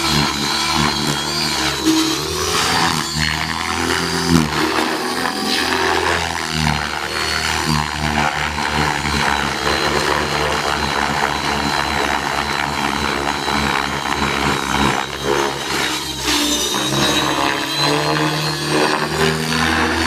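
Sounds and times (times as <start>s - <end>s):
helicopter rotor chop: 0.0s - 20.0s
high motor whine: 0.0s - 20.0s.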